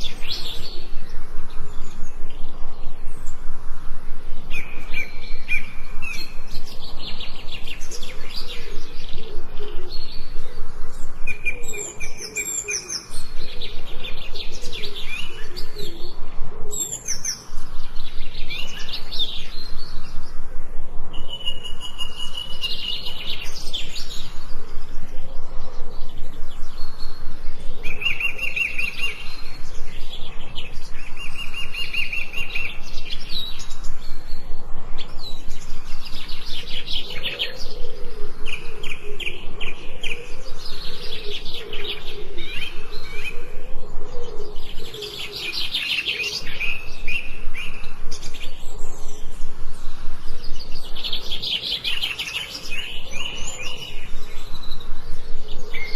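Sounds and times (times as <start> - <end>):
songbirds trilling and chirping: 0.0 - 55.9.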